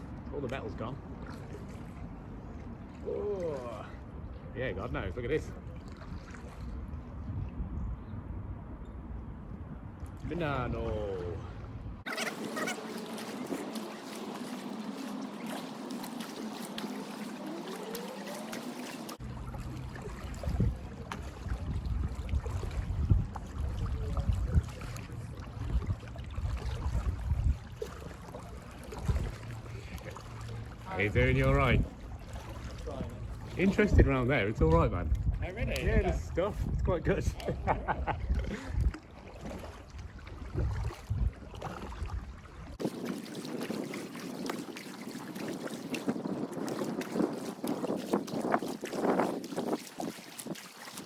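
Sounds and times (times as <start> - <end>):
paddle and water sounds: 0.0 - 51.0
wind buffeting microphone: 2.4 - 12.1, 19.2 - 51.0.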